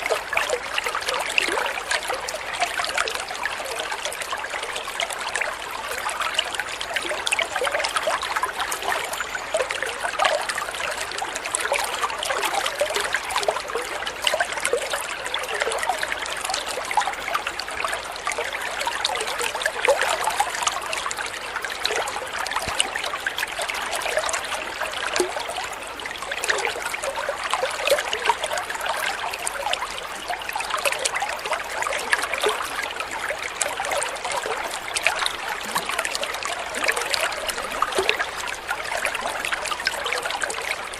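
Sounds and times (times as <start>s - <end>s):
water trickling over stones: 0.0s - 40.9s.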